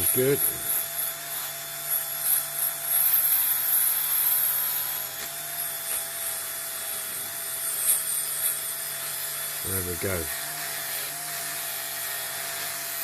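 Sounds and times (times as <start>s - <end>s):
electric polishing tool whining: 0.0s - 13.0s.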